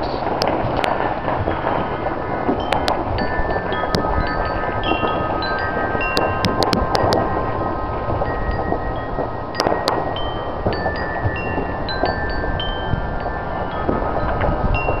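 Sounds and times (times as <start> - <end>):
firework cracks: 0.0 - 15.0
wind chimes ringing: 0.0 - 15.0
wind rumble on microphone: 0.0 - 15.0.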